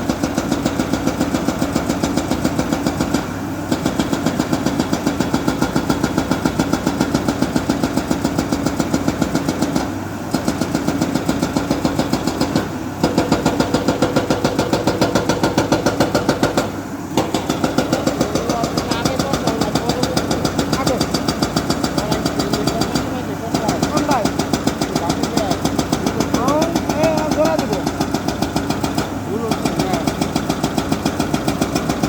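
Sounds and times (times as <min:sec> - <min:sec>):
pulsing diesel engine: 0:00.0 - 0:32.0.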